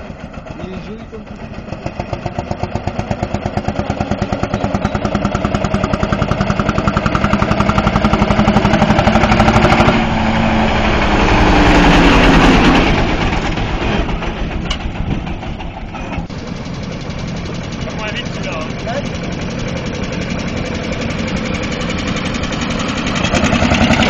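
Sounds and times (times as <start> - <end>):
tractor engine exhaust beat: 0.0 - 24.0.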